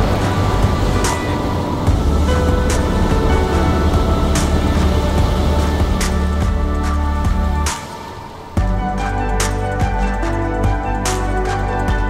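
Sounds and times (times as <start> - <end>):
held chords over heavy bass: 0.0 - 7.8, 8.6 - 12.0.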